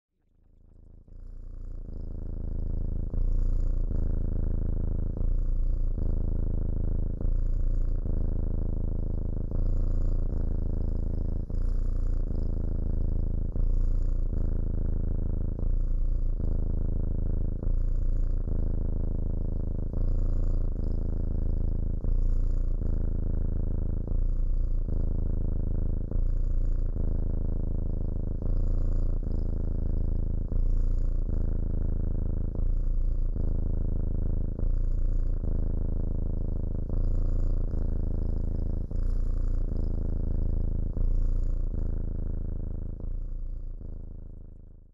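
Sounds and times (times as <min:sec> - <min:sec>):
cat purring: 0:00.2 - 0:44.9.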